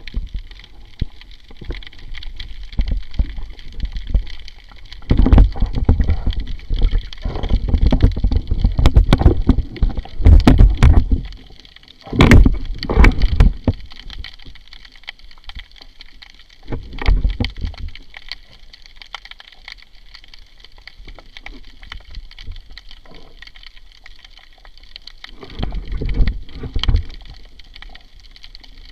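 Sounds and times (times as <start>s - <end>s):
water sloshing and gurgling: 0.0s - 28.9s.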